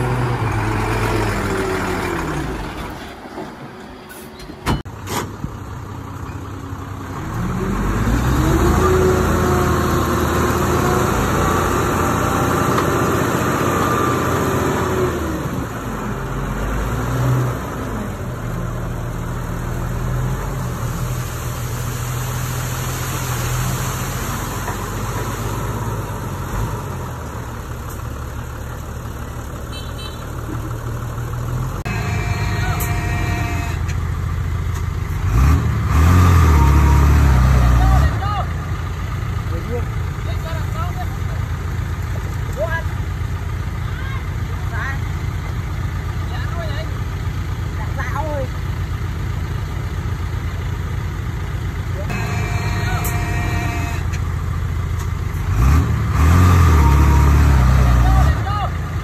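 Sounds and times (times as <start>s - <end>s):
heavy diesel engine revving: 6.9s - 29.6s, 30.2s - 42.0s, 44.3s - 59.0s.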